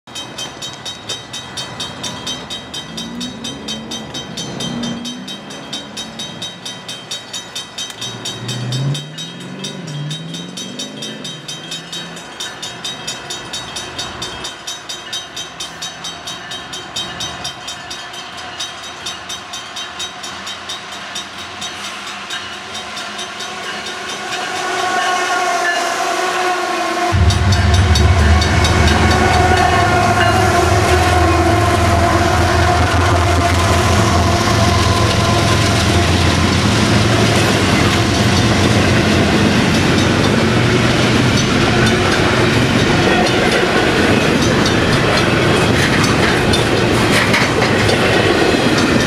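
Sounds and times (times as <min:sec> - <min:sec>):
crossing warning bell ringing: 0:00.1 - 0:49.0
diesel locomotive engines: 0:00.1 - 0:49.0.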